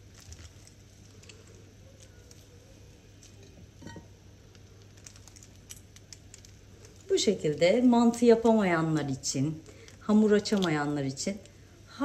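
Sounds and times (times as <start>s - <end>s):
plastic crinkling: 0.0s - 11.6s
soft squishing: 0.0s - 12.0s.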